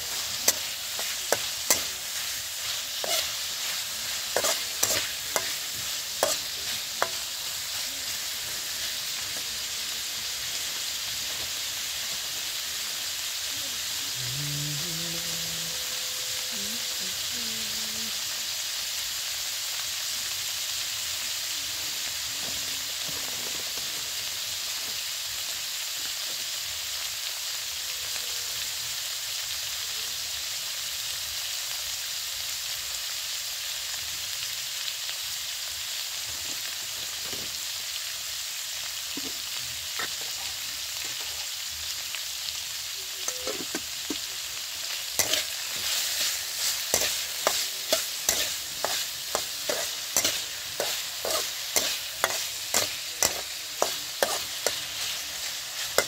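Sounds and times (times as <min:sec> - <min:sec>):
meat sizzling in oil: 0:00.0 - 0:56.0.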